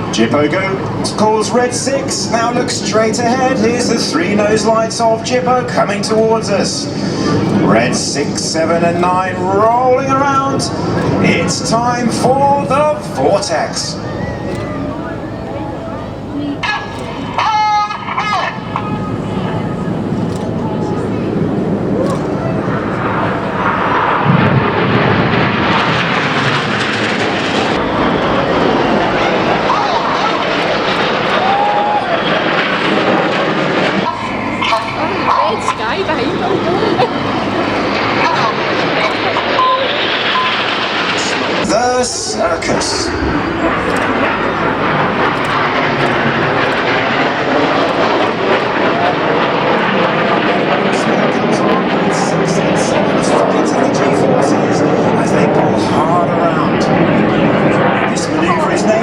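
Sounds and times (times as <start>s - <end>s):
jets flying over: 0.0s - 59.0s.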